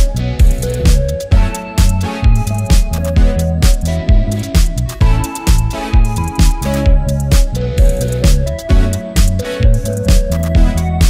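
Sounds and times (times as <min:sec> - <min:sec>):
music with heavy bass and beat: 0:00.0 - 0:11.0.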